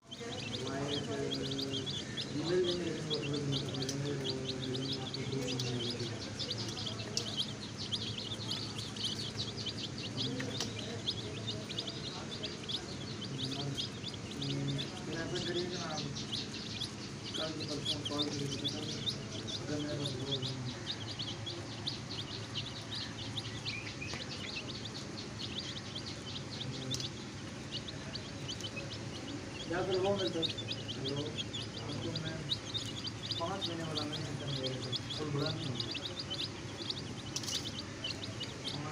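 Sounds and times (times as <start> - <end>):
baby chicks peeping: 0.0 - 38.9
steady background hum: 0.1 - 38.9.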